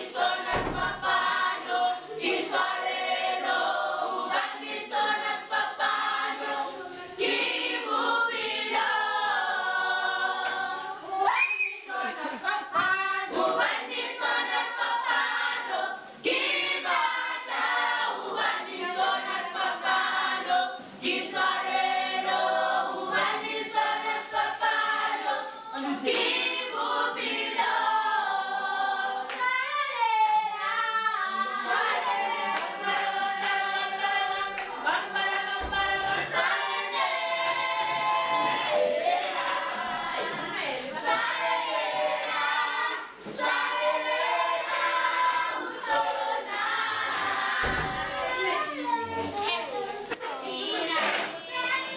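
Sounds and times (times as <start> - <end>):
group singing in harmony: 0.0 - 51.9.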